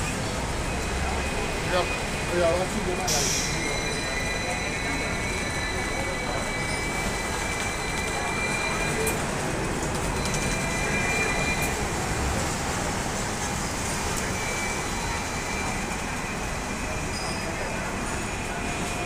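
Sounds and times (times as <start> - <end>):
city traffic: 0.0 - 19.0
tram wheels rumbling on rails: 0.0 - 19.0.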